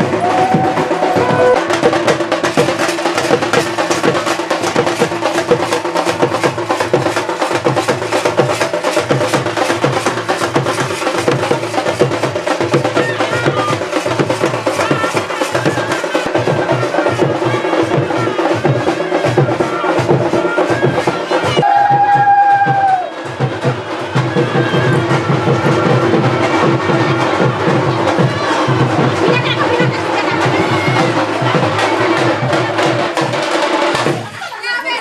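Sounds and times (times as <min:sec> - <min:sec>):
fast steady percussion: 0:00.0 - 0:35.0.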